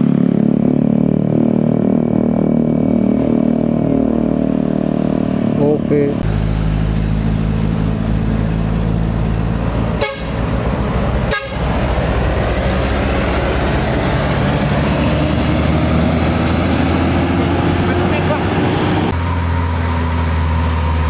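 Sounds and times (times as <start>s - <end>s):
diesel truck engine droning: 0.0s - 21.0s
traffic noise: 0.0s - 21.0s.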